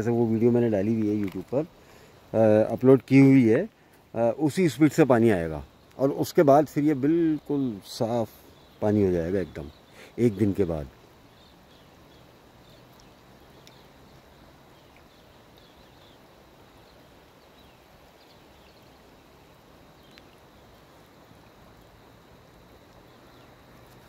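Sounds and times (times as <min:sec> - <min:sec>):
shallow river over stones: 0:00.0 - 0:24.0.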